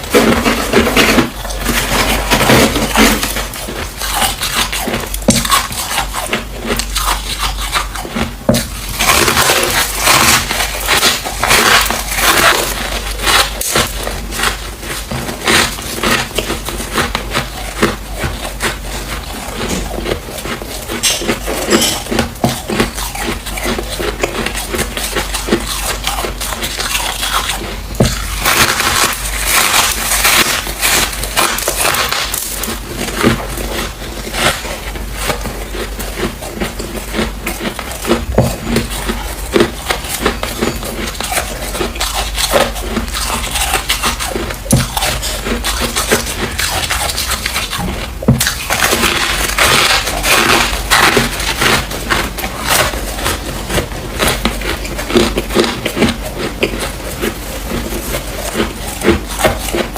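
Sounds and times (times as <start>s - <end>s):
frost crunching being chewed: 0.0s - 59.9s.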